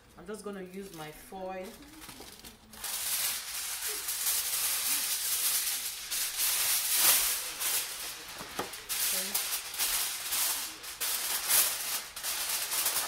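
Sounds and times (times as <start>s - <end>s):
aluminium foil crinkling: 0.3s - 13.0s.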